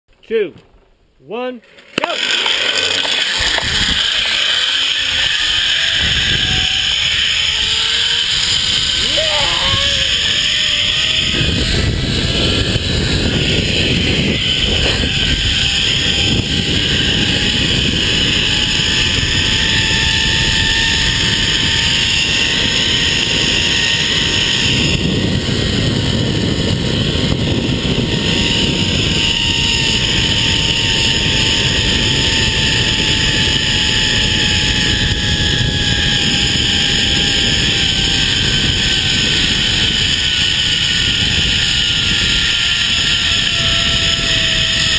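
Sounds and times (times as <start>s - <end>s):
zipline pulleys whining on cable: 1.6s - 44.9s
wind rush on microphone: 3.2s - 44.9s.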